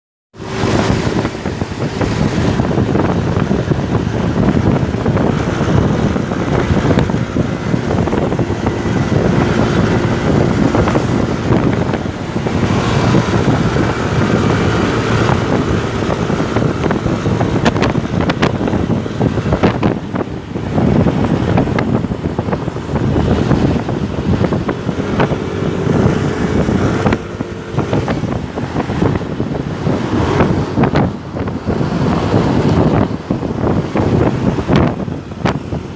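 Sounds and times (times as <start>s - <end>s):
motorcycle engine running: 0.4s - 35.9s
wind buffeting microphone: 0.4s - 35.9s.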